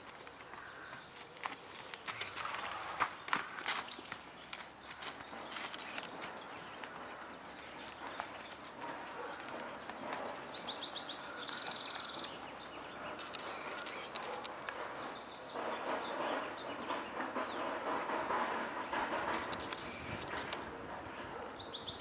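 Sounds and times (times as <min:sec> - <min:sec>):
horse hooves on dirt track: 0:00.0 - 0:21.5
outdoor background noise: 0:00.0 - 0:22.0
songbird singing: 0:00.0 - 0:22.0.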